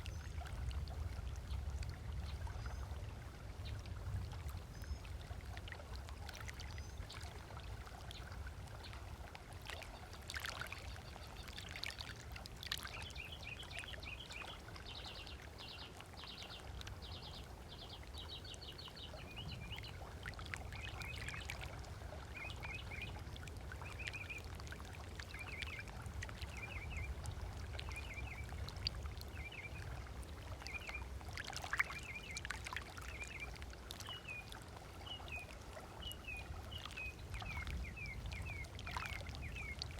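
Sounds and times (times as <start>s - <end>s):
water lapping on shore: 0.0s - 39.9s.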